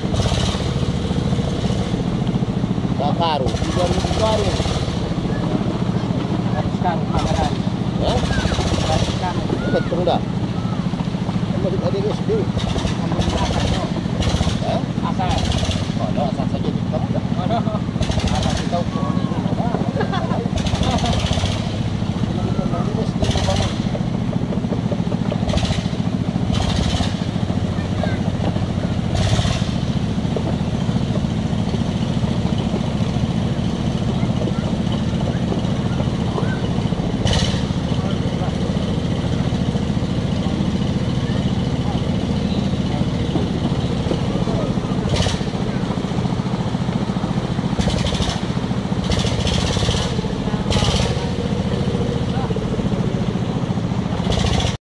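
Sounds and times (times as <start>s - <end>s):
diesel engine running: 0.0s - 54.8s.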